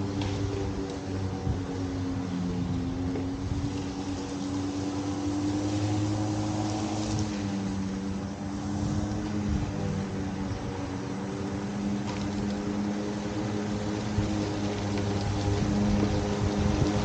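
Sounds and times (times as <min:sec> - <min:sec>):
electric lawn mower running: 0:00.0 - 0:17.0.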